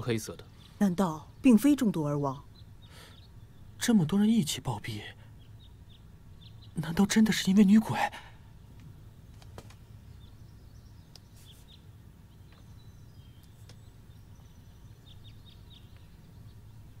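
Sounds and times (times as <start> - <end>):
faint bird chirps: 0.0 - 17.0
steady low hum: 0.0 - 17.0.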